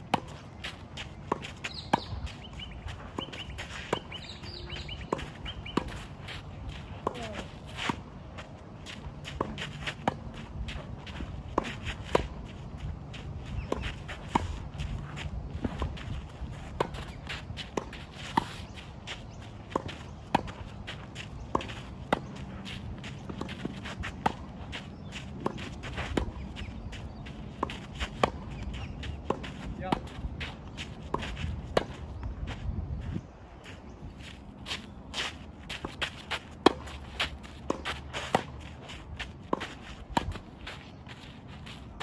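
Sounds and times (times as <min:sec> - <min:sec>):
rackets striking tennis ball: 0:00.1 - 0:32.2, 0:35.1 - 0:42.0
footsteps shuffling on clay: 0:00.2 - 0:42.0.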